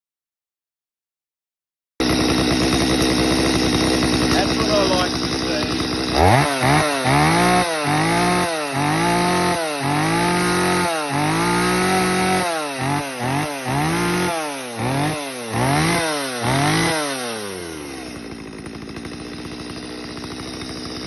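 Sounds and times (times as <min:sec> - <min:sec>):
chainsaw revving: 0:02.0 - 0:21.0.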